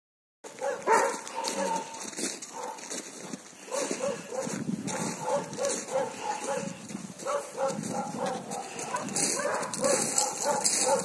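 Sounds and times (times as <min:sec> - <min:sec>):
dog barking: 0:00.4 - 0:03.0, 0:03.6 - 0:11.0.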